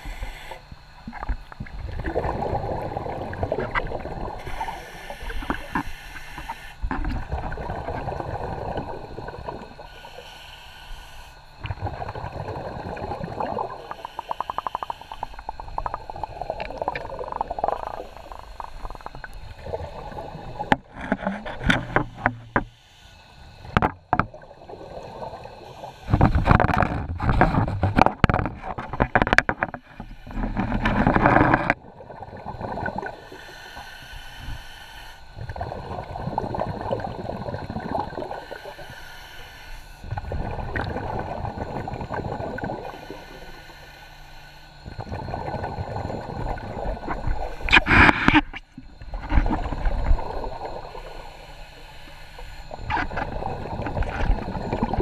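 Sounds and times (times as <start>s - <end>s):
underwater breathing bubbles: 0.0s - 55.0s.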